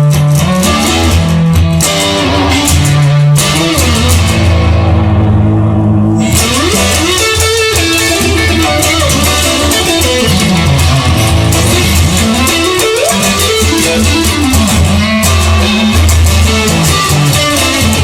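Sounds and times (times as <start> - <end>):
bass line: 0.0 - 18.0
electric guitar bending notes: 0.0 - 18.0.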